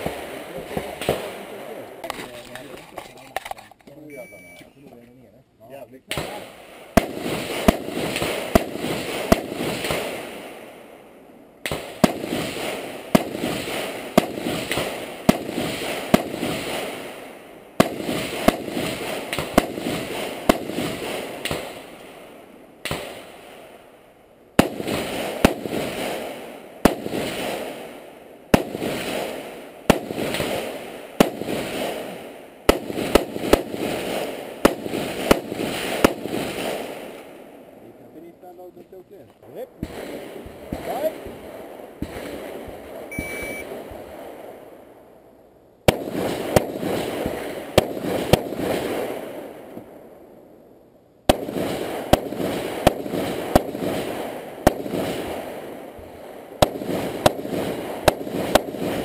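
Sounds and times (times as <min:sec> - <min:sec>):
rifle shots with echo: 0:00.0 - 0:03.5, 0:06.1 - 0:23.9, 0:24.5 - 0:38.1, 0:39.8 - 0:45.2, 0:45.8 - 0:50.2, 0:51.3 - 0:59.0.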